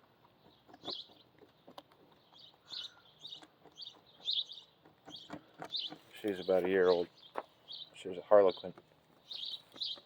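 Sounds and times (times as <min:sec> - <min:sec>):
small bird chirping: 0:00.0 - 0:10.0.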